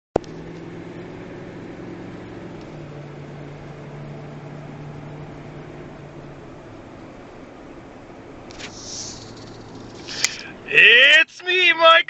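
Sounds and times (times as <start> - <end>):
car engine hum inside cabin: 0.2 - 12.0.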